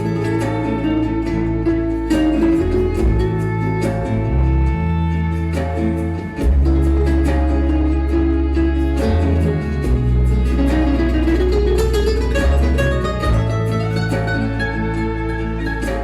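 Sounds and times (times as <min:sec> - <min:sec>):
flamenco guitar: 0:00.0 - 0:16.0
percussion beat: 0:00.0 - 0:16.0
sustained bass notes: 0:00.0 - 0:16.0.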